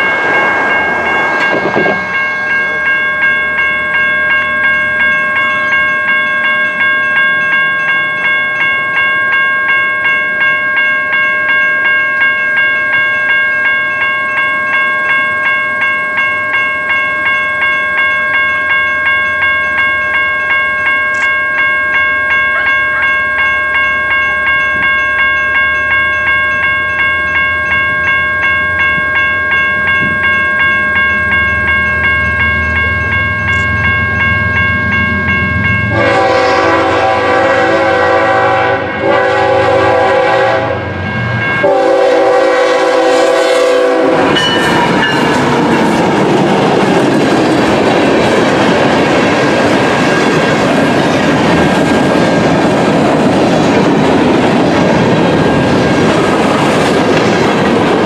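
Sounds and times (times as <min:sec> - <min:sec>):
train rumble: 0:00.0 - 0:17.3, 0:17.9 - 0:58.0
crossing warning bell ringing: 0:00.0 - 0:58.0.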